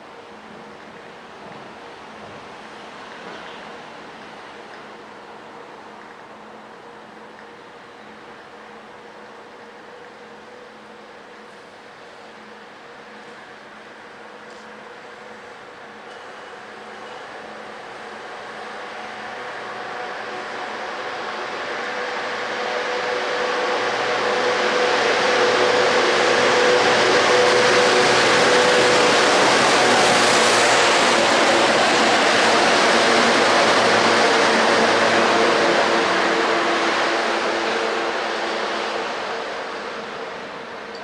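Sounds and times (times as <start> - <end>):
electric locomotive passing: 0.0 - 41.0.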